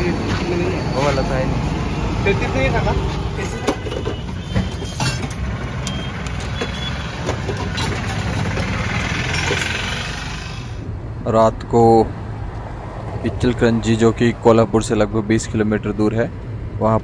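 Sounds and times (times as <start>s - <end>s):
vehicle engine and traffic rumble: 0.0s - 17.0s.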